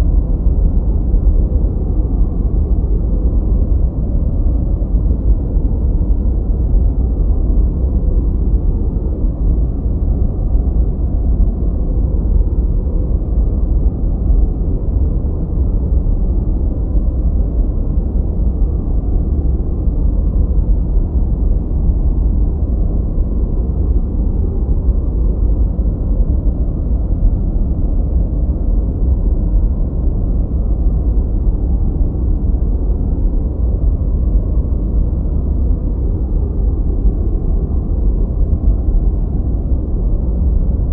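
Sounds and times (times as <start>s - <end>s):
deep brown noise: 0.0s - 40.9s.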